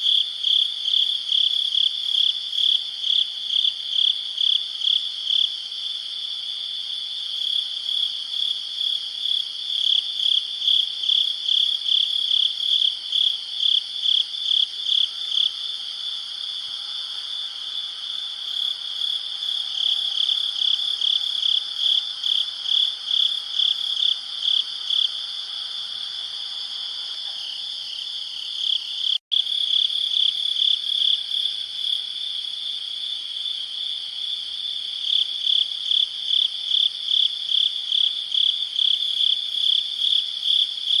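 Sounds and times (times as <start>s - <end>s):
crickets chirping: 0.0s - 41.0s
steady insect trill: 0.0s - 41.0s.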